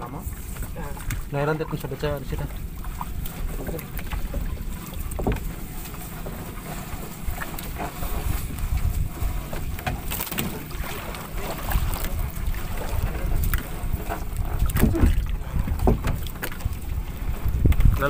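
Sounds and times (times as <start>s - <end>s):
knocks and rustles of fishing net: 0.0s - 18.0s
wind rumbling on microphone: 0.0s - 18.0s.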